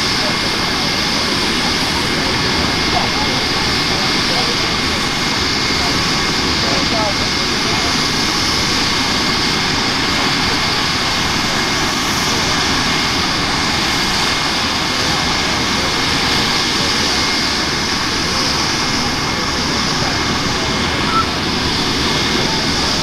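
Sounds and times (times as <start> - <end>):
helicopter engines and rotor running: 0.0 - 23.0
high turbine whine: 0.0 - 23.0.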